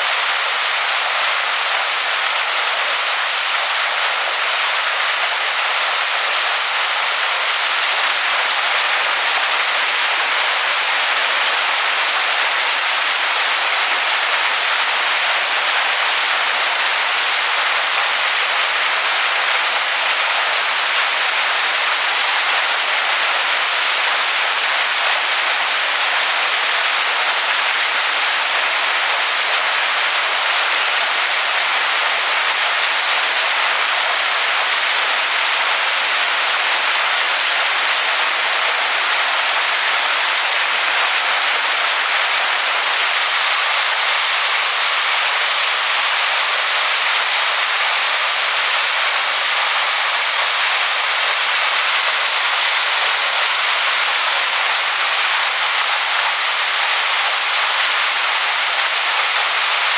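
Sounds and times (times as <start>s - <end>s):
waterfall splashing onto rocks: 0.0s - 59.9s.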